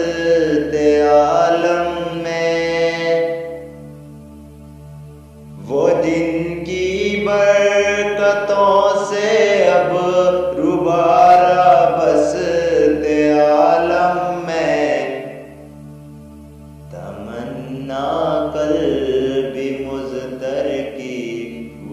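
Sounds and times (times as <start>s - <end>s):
steady low drone: 0.0s - 21.9s.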